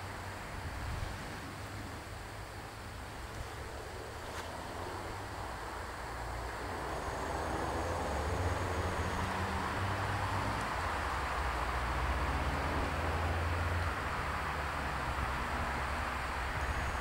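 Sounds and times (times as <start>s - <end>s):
diesel railcar engine humming: 1.4s - 17.0s.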